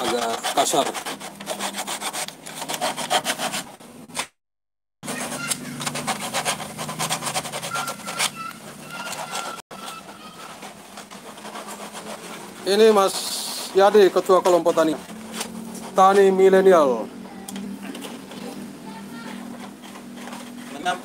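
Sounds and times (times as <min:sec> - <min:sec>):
hand scraping plastic pipe: 0:00.0 - 0:04.3, 0:05.0 - 0:16.9, 0:17.8 - 0:21.0.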